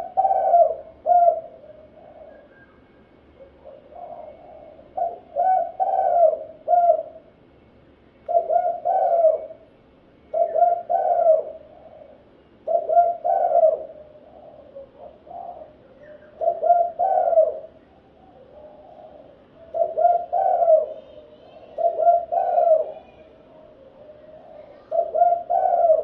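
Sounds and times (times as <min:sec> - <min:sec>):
dove cooing: 0:00.0 - 0:07.4, 0:08.3 - 0:09.7, 0:10.3 - 0:26.0.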